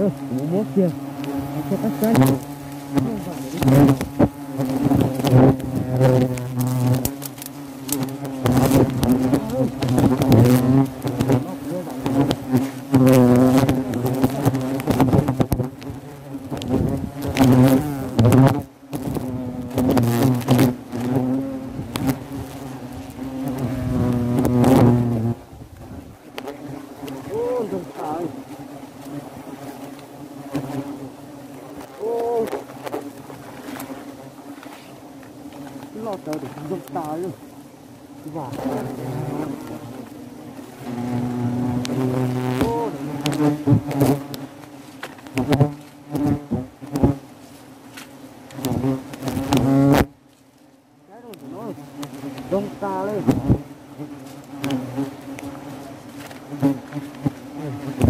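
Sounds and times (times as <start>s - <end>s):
hornets buzzing: 0.0s - 58.0s.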